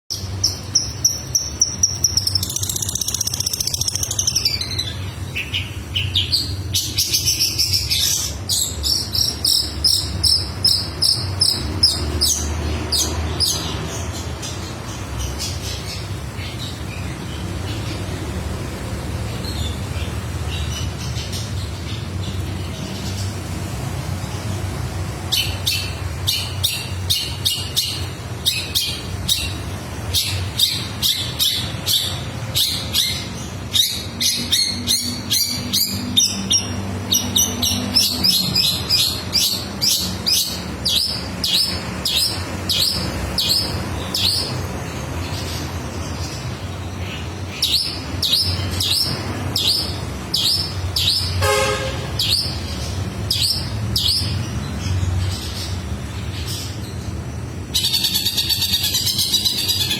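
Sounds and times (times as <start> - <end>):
bird singing: 0.0 - 18.2, 25.3 - 59.9.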